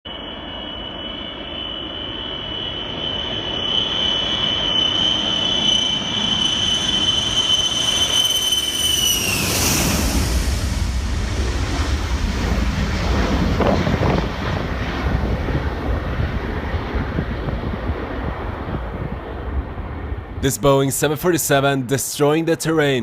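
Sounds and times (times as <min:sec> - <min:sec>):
jet engines passing: 0:00.1 - 0:23.0.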